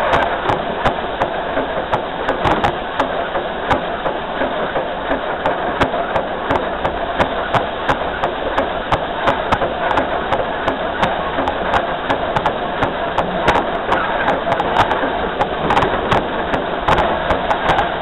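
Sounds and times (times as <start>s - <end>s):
locomotive running rumble: 0.0s - 18.0s
wheels knocking over rails: 0.0s - 18.0s.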